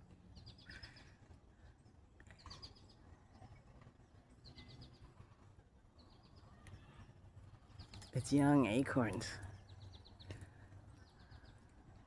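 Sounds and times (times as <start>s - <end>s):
songbird singing faintly: 0.0s - 12.0s.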